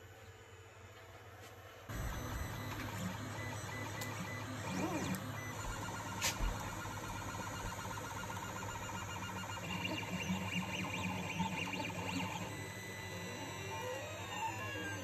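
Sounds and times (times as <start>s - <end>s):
printer low hum: 1.9s - 15.0s
stepper motors whining: 1.9s - 15.0s.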